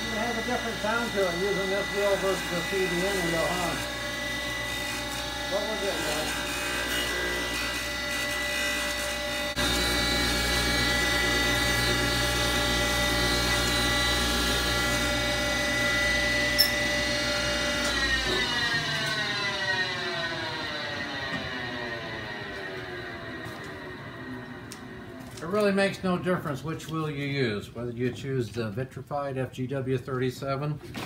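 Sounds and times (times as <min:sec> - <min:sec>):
grinder whine: 0:00.0 - 0:26.6.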